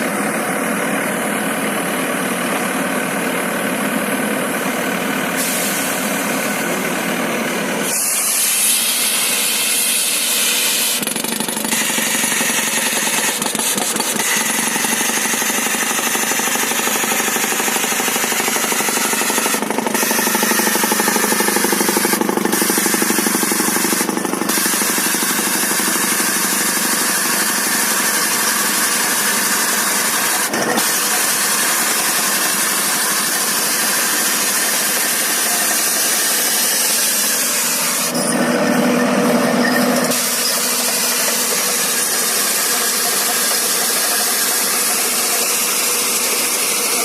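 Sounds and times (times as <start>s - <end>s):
diesel engine and hydraulics running: 0.0s - 47.0s.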